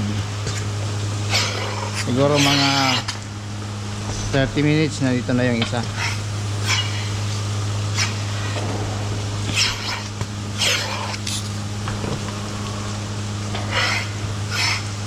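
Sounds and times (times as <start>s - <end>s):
machinery humming low: 0.0s - 15.0s.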